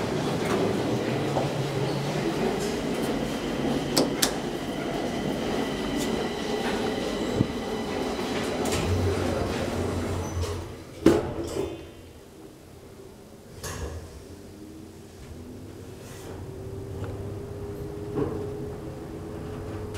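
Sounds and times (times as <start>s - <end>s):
elevator rumbling: 0.0s - 11.0s, 14.6s - 19.9s.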